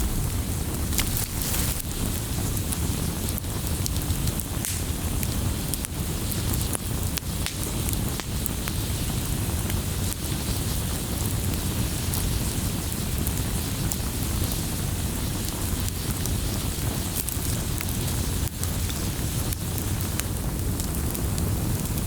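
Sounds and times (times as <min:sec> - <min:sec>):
fire crackling and popping: 0:00.0 - 0:22.0
flames hissing and rumbling: 0:00.0 - 0:22.0.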